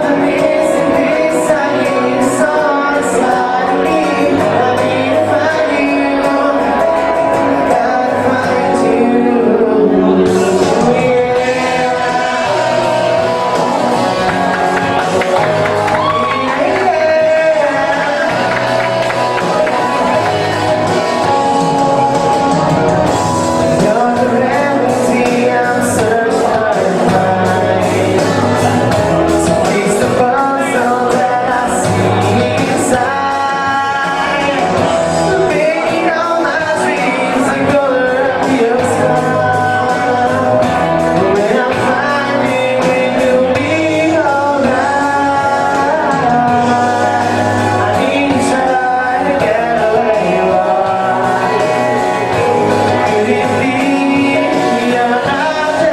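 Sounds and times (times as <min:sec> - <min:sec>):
guitar accompaniment: 0:00.0 - 0:55.9
person singing: 0:00.0 - 0:55.9.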